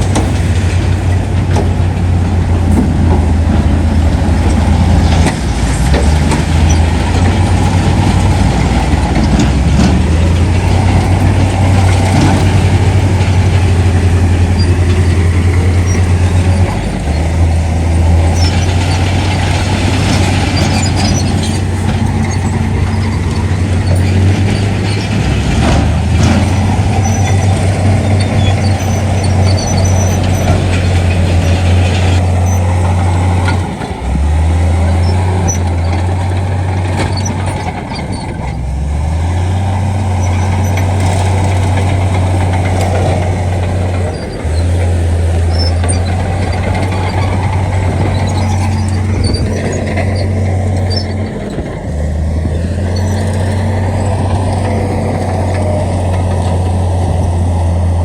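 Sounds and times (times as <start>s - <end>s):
diesel construction machinery drone: 0.0s - 58.0s.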